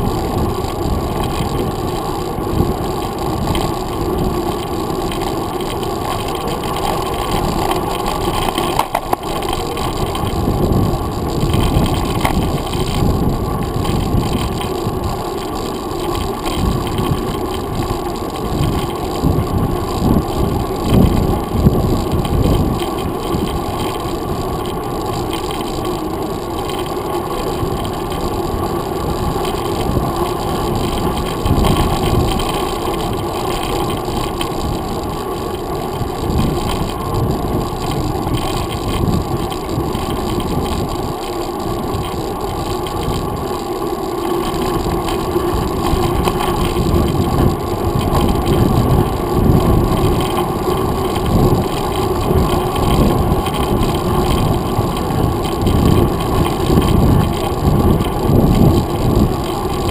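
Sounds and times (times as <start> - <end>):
tyre and bike vibration rumble: 0.0 - 59.9
wind buffeting microphone: 0.0 - 59.9.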